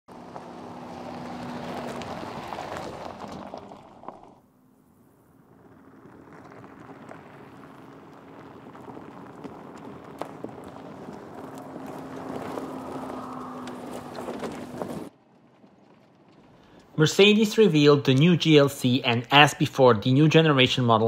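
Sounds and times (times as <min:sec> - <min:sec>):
tyres crunching on gravel: 0:00.1 - 0:21.0.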